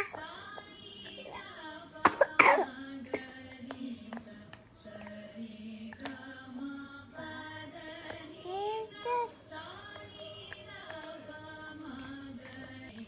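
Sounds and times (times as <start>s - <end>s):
child singing with a cold: 0.0s - 13.0s.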